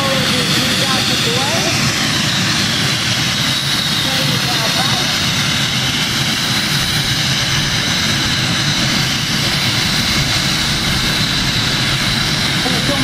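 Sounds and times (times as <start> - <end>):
gas turbine engines roaring: 0.0 - 13.0.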